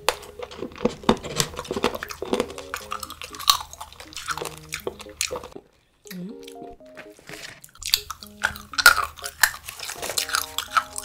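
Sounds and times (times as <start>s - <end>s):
crunching almonds: 0.0s - 5.8s, 7.2s - 11.0s.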